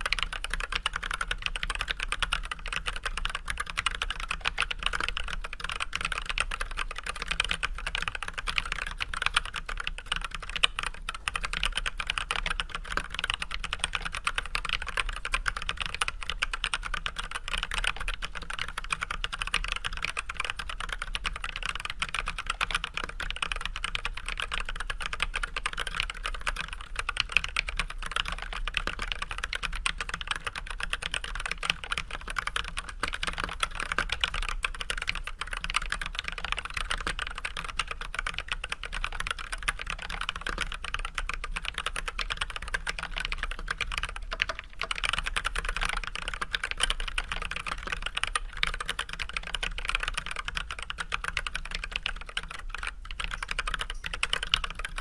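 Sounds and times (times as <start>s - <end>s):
mechanical keyboard typing: 0.0s - 55.0s.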